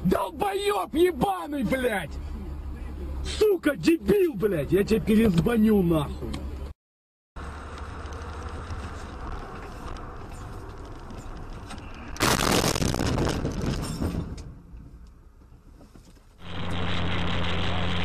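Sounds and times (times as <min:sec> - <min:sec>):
car road and engine noise: 0:00.0 - 0:06.8, 0:07.4 - 0:18.0.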